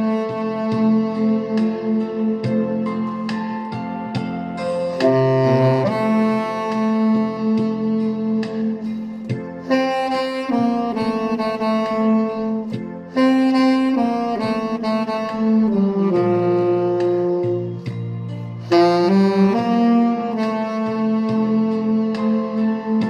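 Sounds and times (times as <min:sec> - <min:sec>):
tenor saxophone melody: 0:00.0 - 0:23.0.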